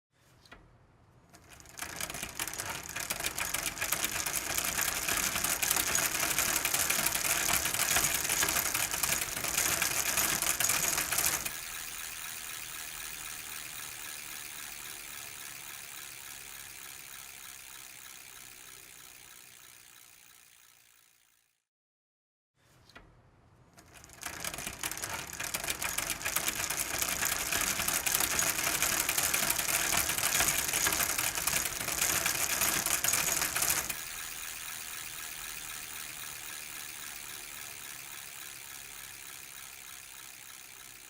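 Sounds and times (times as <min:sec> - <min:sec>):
bicycle chain clattering: 0:01.3 - 0:21.4, 0:23.8 - 0:41.0
bicycle freewheel ticking: 0:01.3 - 0:21.6, 0:23.8 - 0:41.0.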